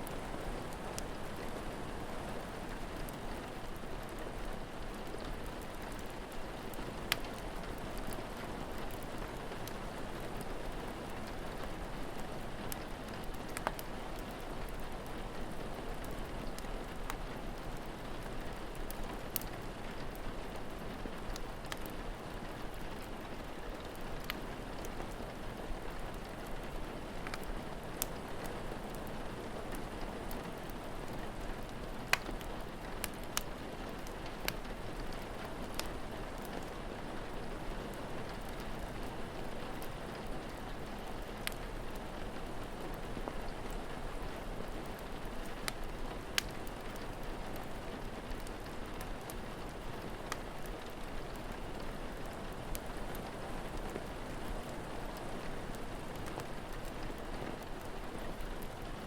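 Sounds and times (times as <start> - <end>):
fire crackling and popping: 0.0 - 59.0
steady rain hissing: 0.0 - 59.0.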